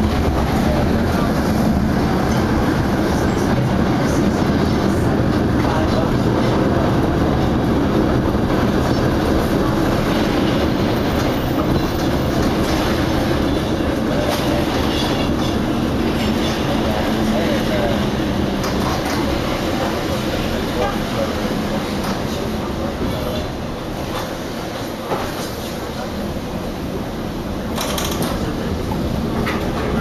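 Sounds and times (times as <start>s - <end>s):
streetcar wheels and motors running: 0.0s - 30.0s.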